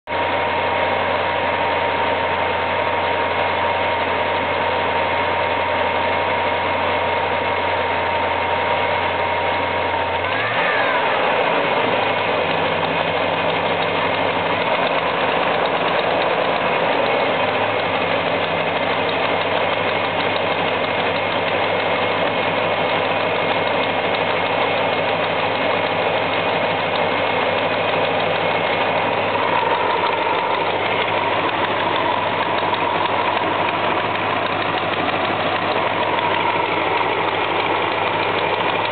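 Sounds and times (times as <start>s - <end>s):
car engine idling with ticking: 0.1s - 38.9s.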